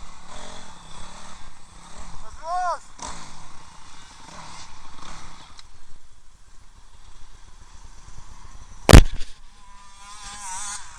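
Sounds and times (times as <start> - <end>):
faint dirt bike engine: 0.0 - 10.9.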